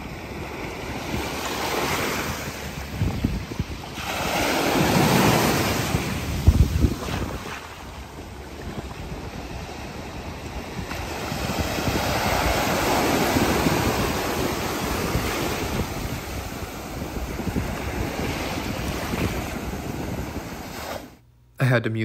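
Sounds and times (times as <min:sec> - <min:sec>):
ocean surf washing onto beach: 0:00.0 - 0:21.2
wind buffeting microphone: 0:00.0 - 0:21.2.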